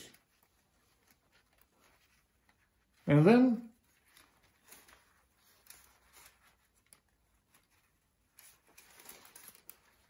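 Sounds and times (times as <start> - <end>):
umbrella rustling and clicking: 0.0 - 10.0.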